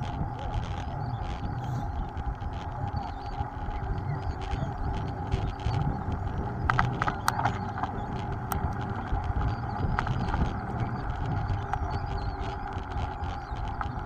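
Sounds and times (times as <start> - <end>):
bike rattles and knocks: 0.0 - 14.0
wind rumble: 0.0 - 14.0.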